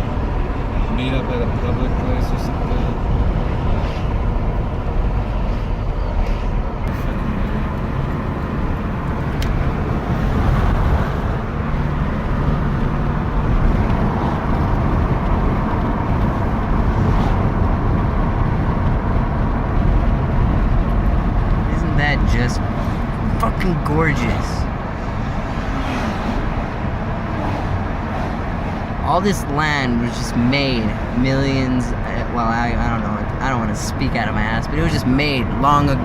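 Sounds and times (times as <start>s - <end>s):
car road and engine noise: 0.0s - 36.0s.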